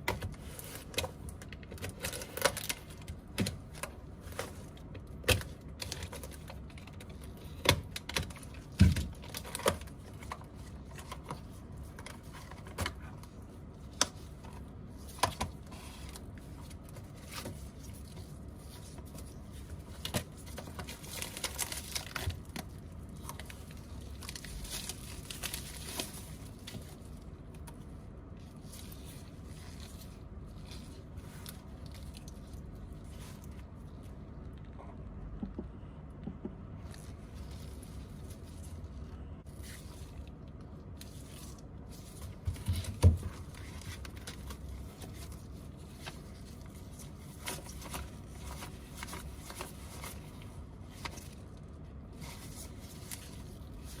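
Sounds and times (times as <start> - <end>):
crinkling and scraping: 0.0 - 54.0.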